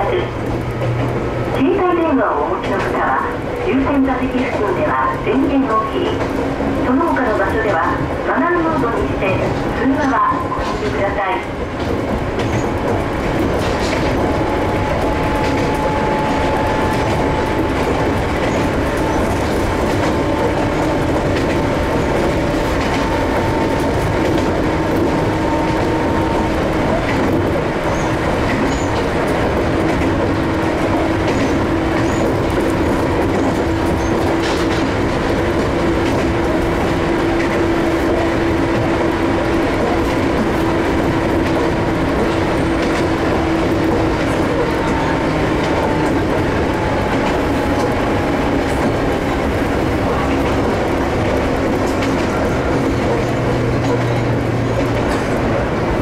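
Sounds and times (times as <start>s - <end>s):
train running noise inside car: 0.0s - 56.0s
wheels clicking over rail joints: 0.2s - 56.0s.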